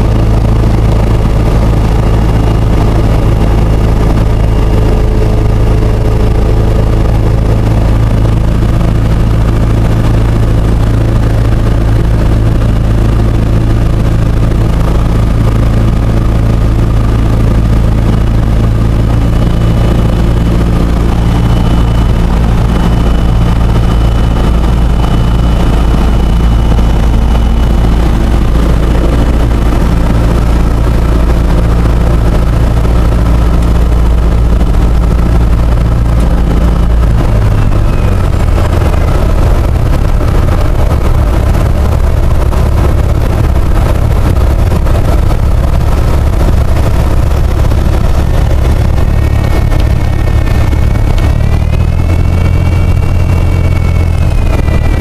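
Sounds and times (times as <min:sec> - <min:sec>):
airplane engine droning: 0:00.0 - 0:55.0.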